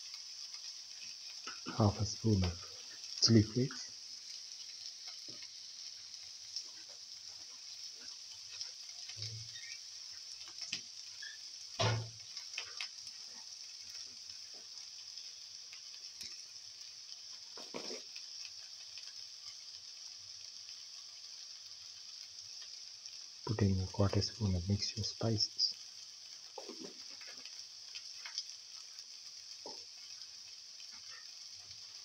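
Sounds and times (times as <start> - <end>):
food sizzling in a frying pan: 0.0 - 32.0.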